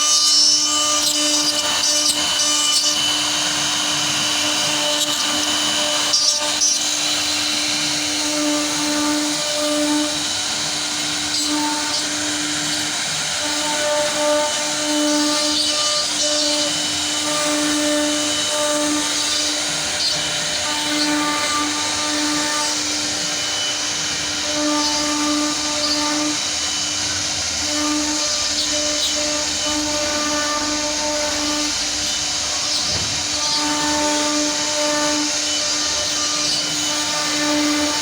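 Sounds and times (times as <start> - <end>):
cutting hiss: 0.0 - 38.0
spindle motor whine: 0.0 - 38.0.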